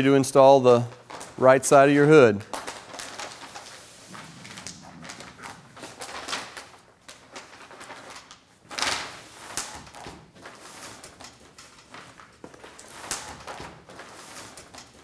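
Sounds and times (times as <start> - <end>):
vinyl film rustling and crackling: 0.9 - 1.4, 2.4 - 15.0.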